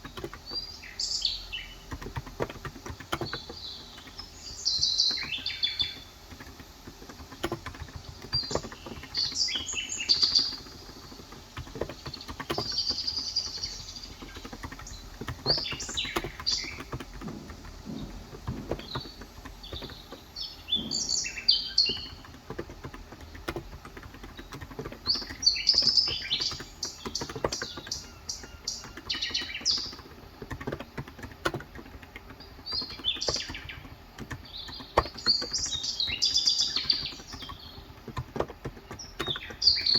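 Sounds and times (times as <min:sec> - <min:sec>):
keyboard typing clicks: 0:00.0 - 0:39.9
small birds chirping: 0:00.0 - 0:39.9.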